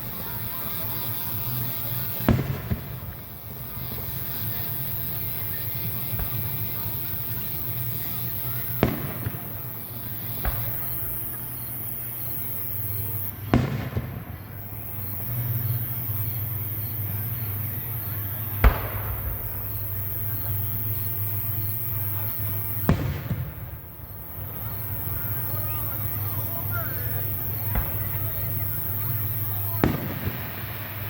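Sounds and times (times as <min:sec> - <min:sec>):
fireworks bursting: 0:00.0 - 0:31.0
steady low hum: 0:00.0 - 0:31.0.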